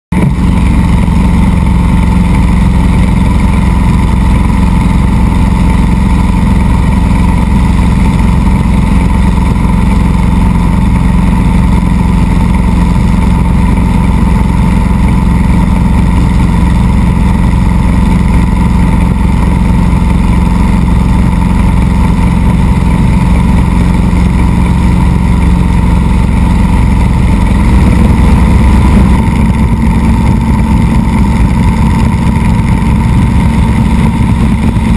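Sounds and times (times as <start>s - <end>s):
helicopter turbine and rotor: 0.2s - 34.9s.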